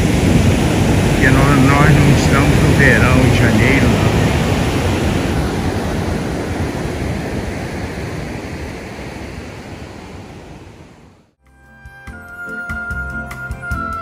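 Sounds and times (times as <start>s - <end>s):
ocean waves breaking: 0.0s - 11.4s.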